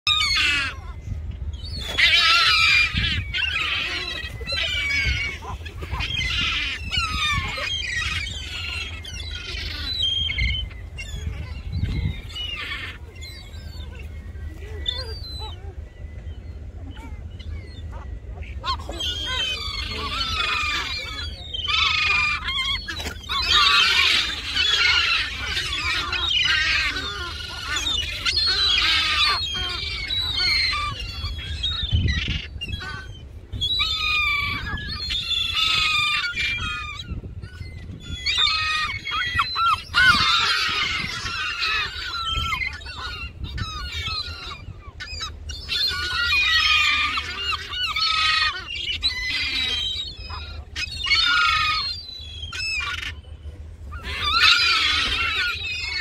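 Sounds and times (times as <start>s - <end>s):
gulls calling: 0.1s - 56.0s.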